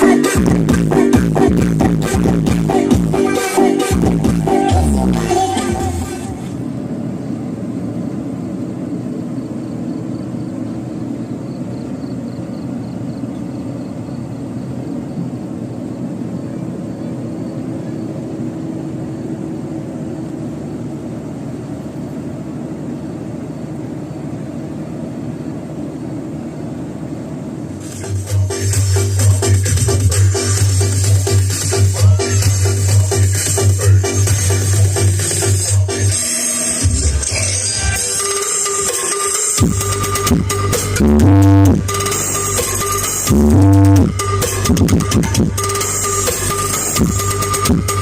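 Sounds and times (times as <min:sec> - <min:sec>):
engine droning: 0:00.0 - 0:48.0.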